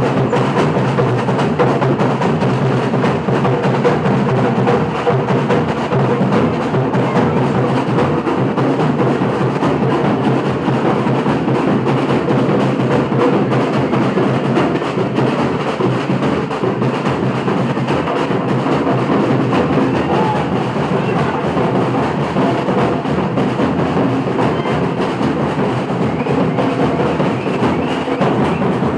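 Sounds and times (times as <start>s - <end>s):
samba percussion drumming: 0.0s - 28.9s.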